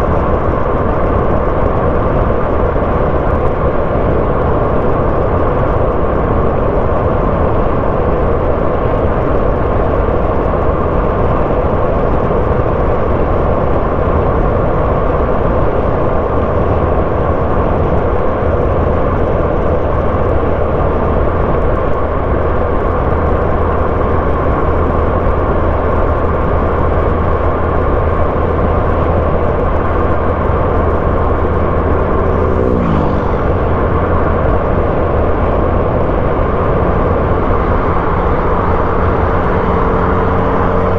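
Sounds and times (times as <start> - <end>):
car engine rumble: 0.0 - 40.9.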